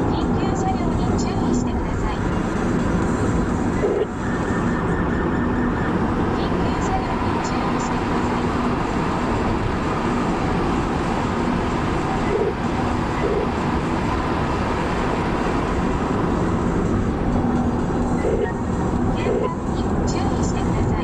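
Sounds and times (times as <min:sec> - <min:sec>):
car driving road noise: 0:00.0 - 0:21.0.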